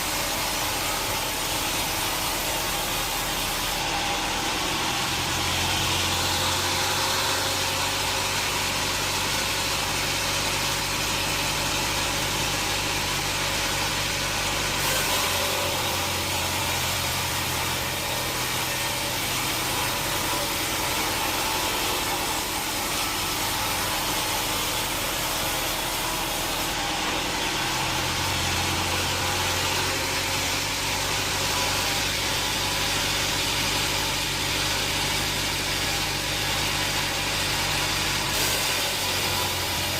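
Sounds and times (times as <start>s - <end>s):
sawmill machinery motor drone: 0.0s - 39.9s.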